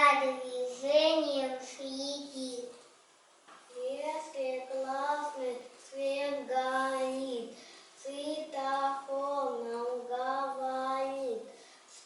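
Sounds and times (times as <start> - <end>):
child singing: 0.0 - 2.8, 3.7 - 11.6.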